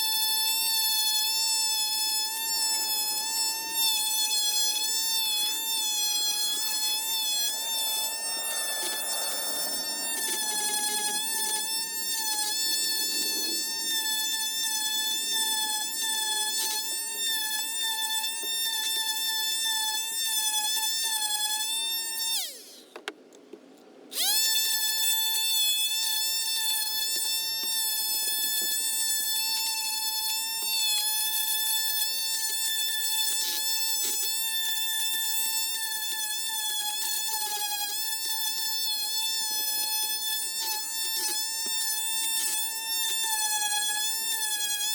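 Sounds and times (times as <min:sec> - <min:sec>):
electric power tool motor whining: 0:00.0 - 0:23.1, 0:24.1 - 0:44.9.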